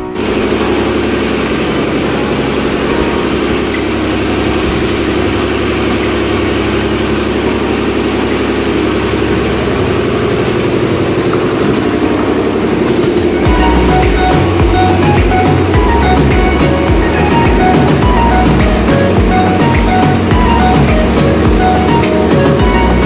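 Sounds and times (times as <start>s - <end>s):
floor polishing machine grinding: 0.0s - 23.0s.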